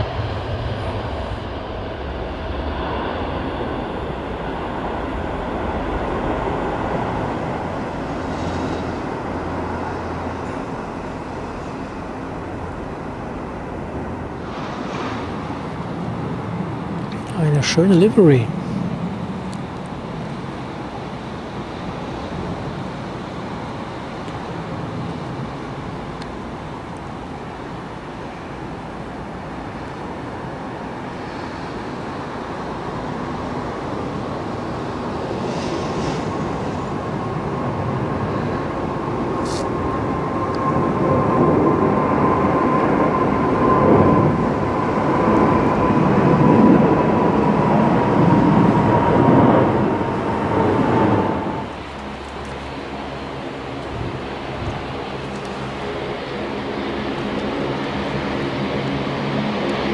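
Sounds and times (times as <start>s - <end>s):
jet engines rumbling overhead: 0.0s - 59.9s
jet fan whine: 0.0s - 59.9s.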